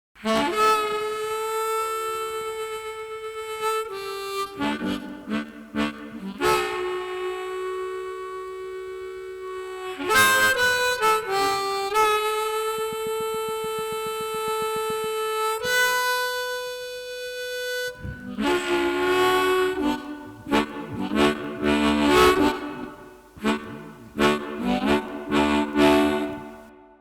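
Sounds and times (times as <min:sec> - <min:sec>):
blues harmonica: 0:00.2 - 0:27.0.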